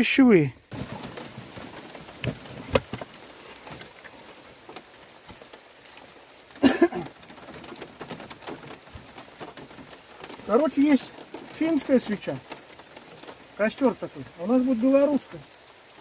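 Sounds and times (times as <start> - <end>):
heavy rain falling: 0.0 - 16.0
raindrops tapping: 0.2 - 16.0.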